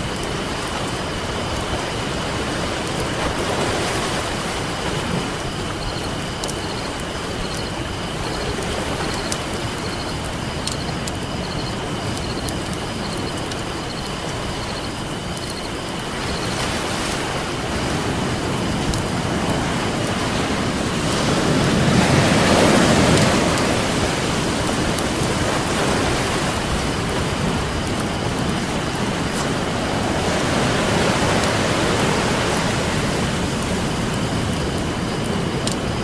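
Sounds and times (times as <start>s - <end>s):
ocean waves washing on beach: 0.0s - 36.0s.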